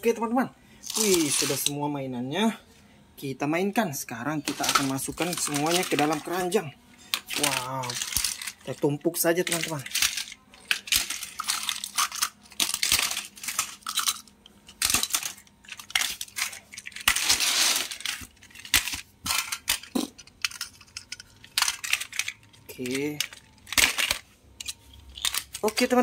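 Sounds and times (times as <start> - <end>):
toy cars clattering into plastic basket: 0.9 - 1.7, 4.5 - 8.8, 9.4 - 26.0
toys rattling shuffle: 0.9 - 1.7, 4.4 - 26.0.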